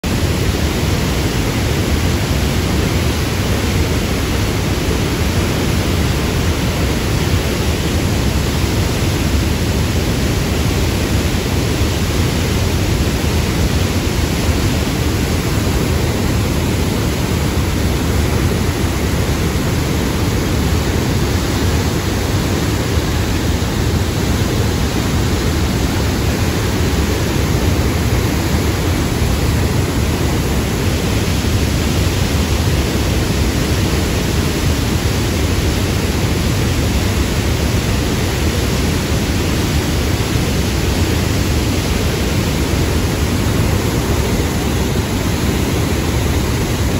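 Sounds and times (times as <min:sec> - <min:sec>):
muddy water churning and rushing: 0:00.1 - 0:46.9.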